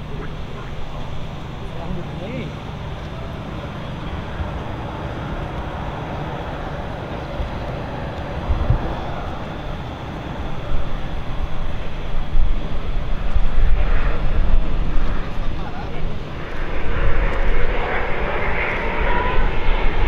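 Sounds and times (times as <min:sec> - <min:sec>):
jet airliner roaring: 0:00.0 - 0:20.0.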